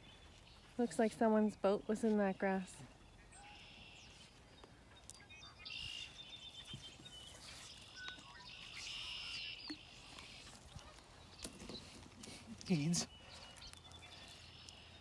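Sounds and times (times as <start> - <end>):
blackbirds singing buzzy trills: 0.0 - 15.0.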